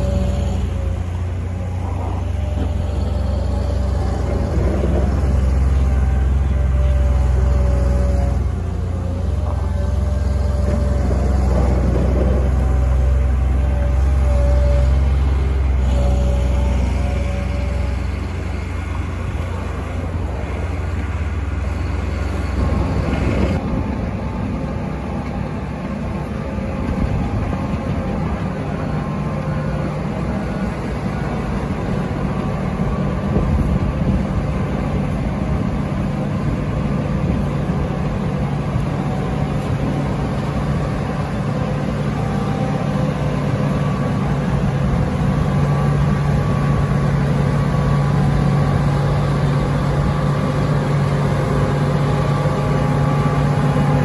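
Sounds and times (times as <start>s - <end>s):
diesel engine hum: 0.0s - 54.0s.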